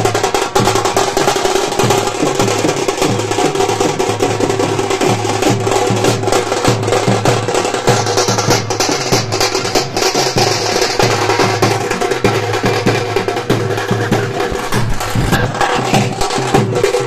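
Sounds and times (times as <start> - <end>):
side drums played fast: 0.0 - 17.0.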